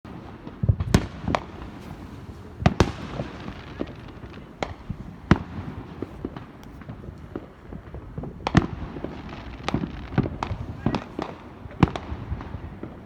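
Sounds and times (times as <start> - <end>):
fireworks bangs and pops: 0.1 - 13.0
steady background hiss: 0.1 - 13.0.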